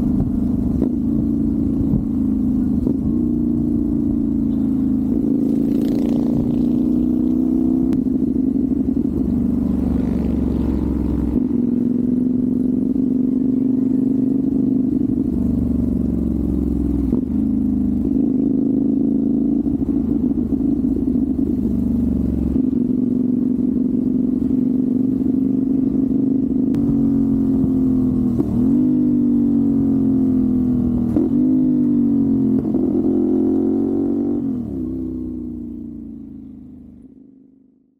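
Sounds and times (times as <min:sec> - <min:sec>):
motorcycle throttle blips: 0:00.0 - 0:37.4
motorcycle engine running: 0:00.0 - 0:37.9.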